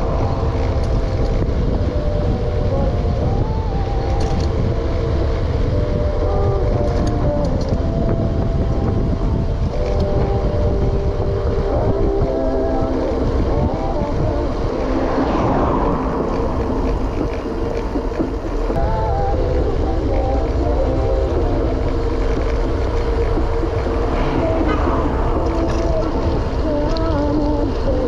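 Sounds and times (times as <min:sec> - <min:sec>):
road rumble: 0:00.0 - 0:28.0
wind buffeting microphone: 0:00.0 - 0:28.0.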